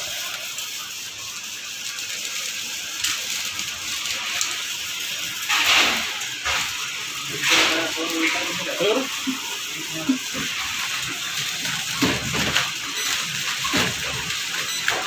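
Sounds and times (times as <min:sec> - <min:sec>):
packaging machine hissing and rattling: 0:00.0 - 0:15.0.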